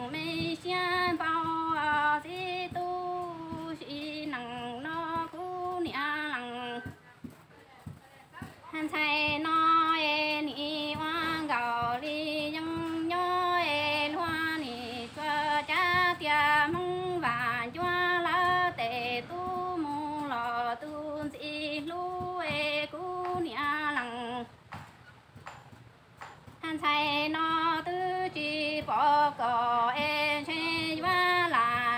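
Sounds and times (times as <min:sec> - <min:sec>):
woman singing unaccompanied: 0:00.0 - 0:24.7, 0:26.4 - 0:31.9.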